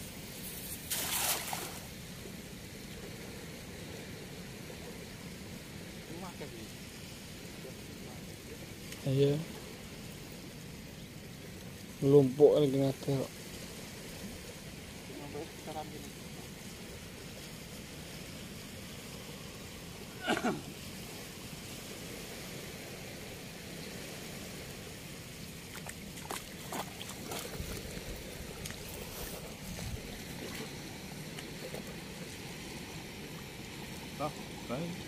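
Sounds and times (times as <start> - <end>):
river water rushing through weir: 0.0 - 35.0.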